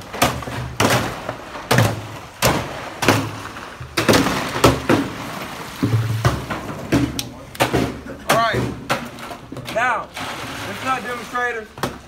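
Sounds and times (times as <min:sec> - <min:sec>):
water glugging from plastic cans: 0:00.0 - 0:12.0.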